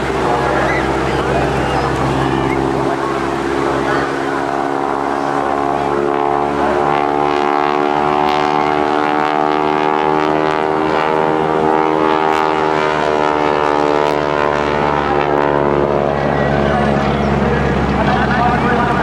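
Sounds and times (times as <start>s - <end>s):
biplane engine droning overhead: 0.0s - 19.0s.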